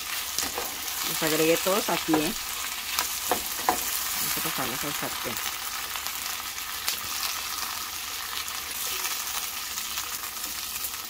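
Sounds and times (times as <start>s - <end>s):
peppers sizzling in hot oil: 0.0s - 11.0s.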